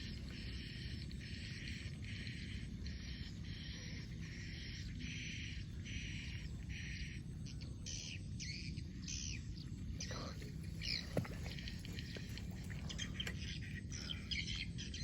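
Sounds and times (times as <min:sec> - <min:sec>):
low rumbling background: 0:00.0 - 0:15.0.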